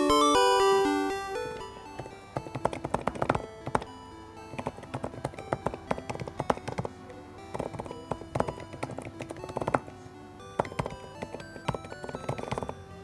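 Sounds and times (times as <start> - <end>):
background music: 0.0 - 13.0
keyboard typing clicks: 0.0 - 13.0.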